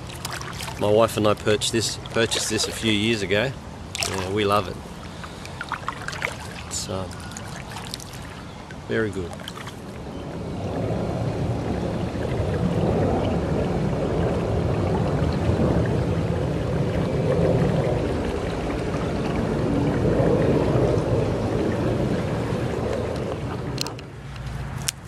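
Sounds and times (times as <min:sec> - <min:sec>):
water rushing along kayak hull: 0:00.0 - 0:24.9.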